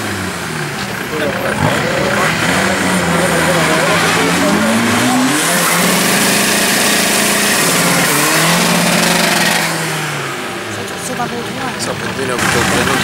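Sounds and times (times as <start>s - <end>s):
car engine revving hard: 0.0s - 13.0s
tyres screeching on asphalt: 0.0s - 13.0s.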